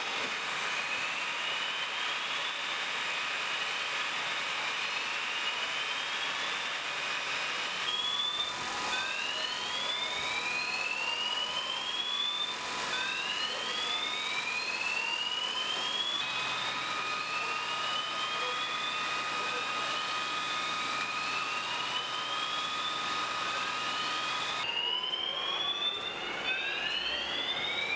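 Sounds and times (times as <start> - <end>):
rising whoop alarm: 0.8 - 27.9.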